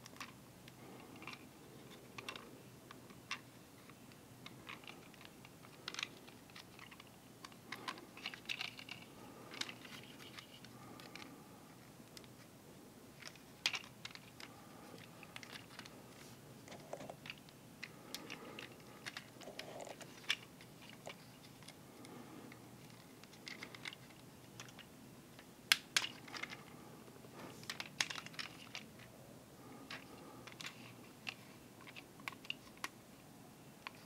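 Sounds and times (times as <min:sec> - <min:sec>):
plastic toy parts clicking: 0:00.0 - 0:11.3, 0:13.2 - 0:15.9, 0:16.7 - 0:21.8, 0:22.8 - 0:26.6, 0:27.6 - 0:29.1, 0:29.8 - 0:33.0.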